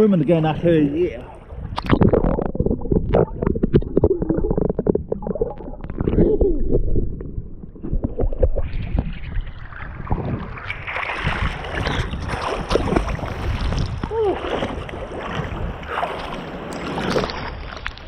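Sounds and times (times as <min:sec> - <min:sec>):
sea water sloshing and splashing: 0:01.4 - 0:18.0.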